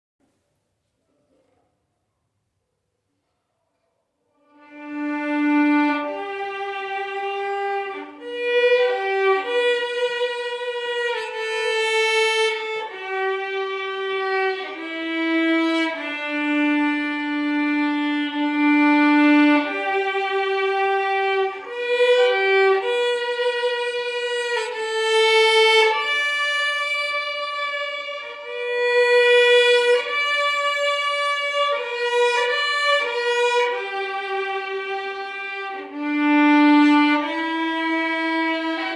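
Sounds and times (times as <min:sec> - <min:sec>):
solo violin hymn melody: 0:04.4 - 0:38.9.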